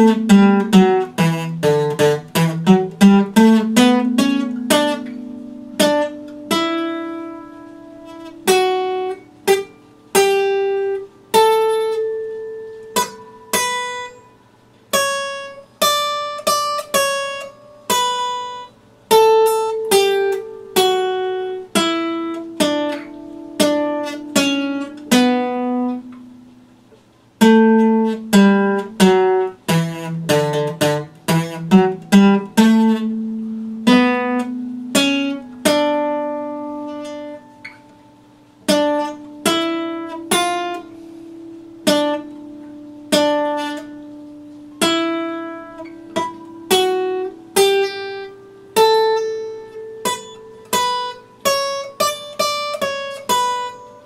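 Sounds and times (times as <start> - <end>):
acoustic guitar fingerpicked melody: 0.0 - 54.0.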